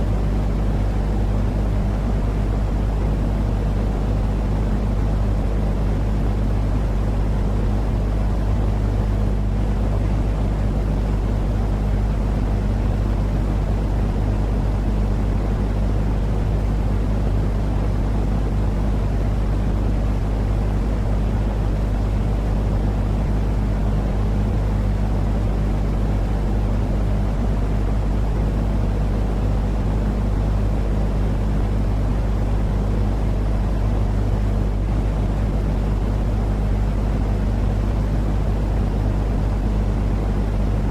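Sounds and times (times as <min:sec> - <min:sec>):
deep rumbling white noise: 0:00.0 - 0:40.9
steady low hum: 0:00.0 - 0:40.9.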